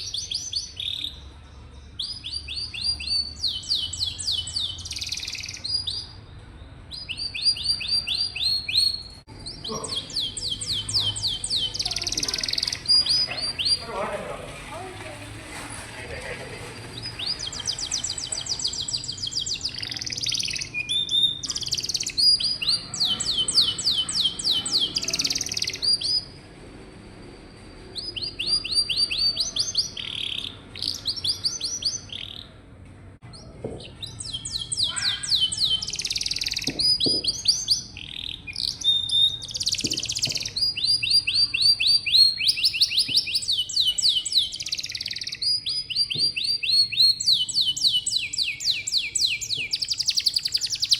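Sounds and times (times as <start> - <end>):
canary singing trills: 0.0 - 14.8, 16.7 - 26.4, 27.1 - 32.6, 33.2 - 50.9.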